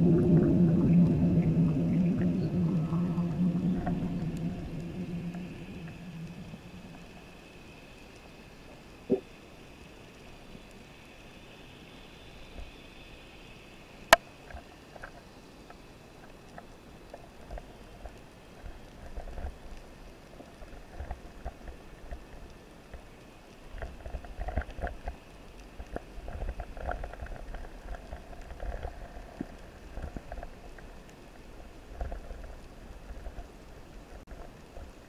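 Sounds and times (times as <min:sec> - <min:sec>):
low rumbling water movement: 0:00.0 - 0:35.0
crackle of small underwater clicks: 0:00.9 - 0:11.3, 0:14.0 - 0:35.0.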